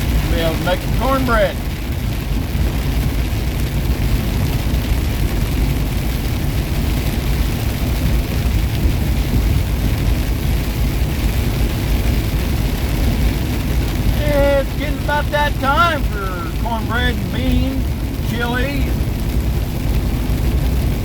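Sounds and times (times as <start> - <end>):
road noise: 0.0 - 21.0
truck engine rumble: 0.0 - 21.0.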